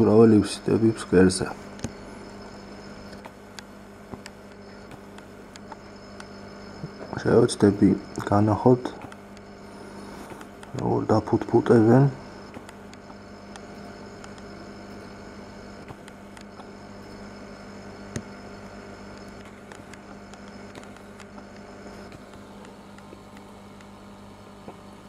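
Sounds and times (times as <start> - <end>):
aquarium equipment humming: 0.0 - 25.0.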